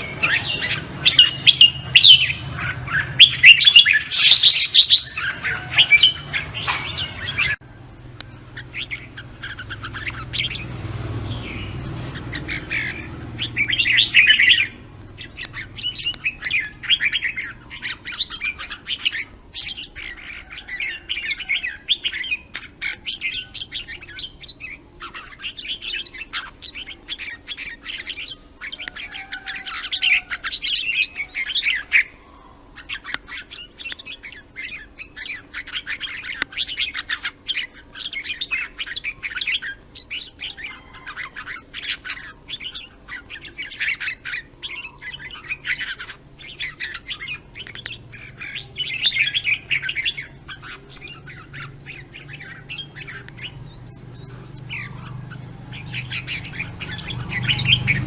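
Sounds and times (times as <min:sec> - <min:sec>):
bird singing chirping warbling notes: 0:00.0 - 0:58.0.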